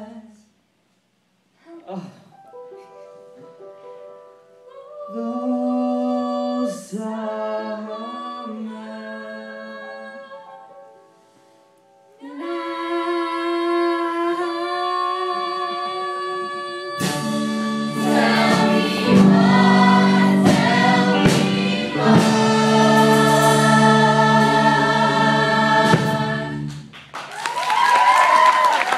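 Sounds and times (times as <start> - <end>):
music: 2.1 - 27.2.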